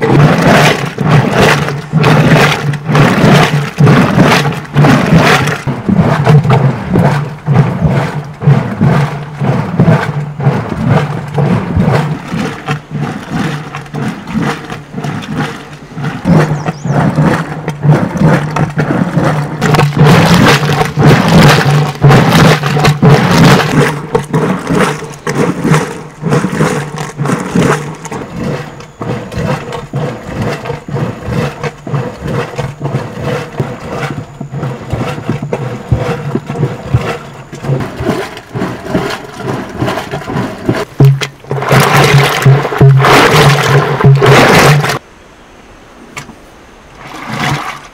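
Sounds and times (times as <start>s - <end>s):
churn sloshing and knocking: 0.0s - 45.0s, 46.2s - 47.9s
low hum: 0.0s - 47.9s.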